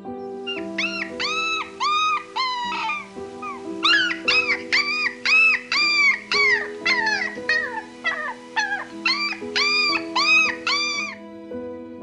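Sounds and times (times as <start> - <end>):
soft piano music: 0.0 - 12.0
hyena cubs whining: 0.4 - 11.2.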